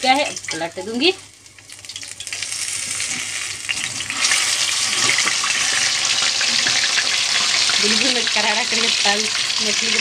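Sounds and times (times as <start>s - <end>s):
fish deep-frying in oil: 0.0s - 10.0s.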